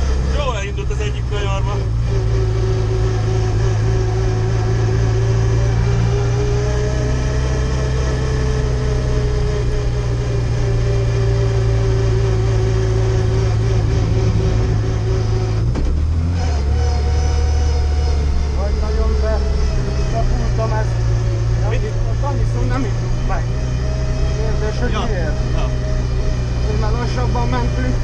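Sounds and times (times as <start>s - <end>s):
car engine running at low revs: 0.0s - 28.0s.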